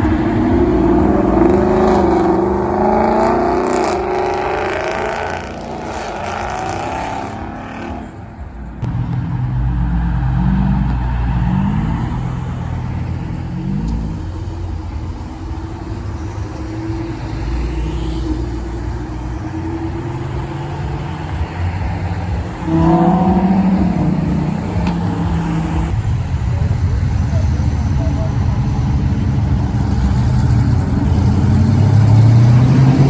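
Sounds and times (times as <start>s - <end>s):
sports car engine accelerating: 0.0s - 33.0s.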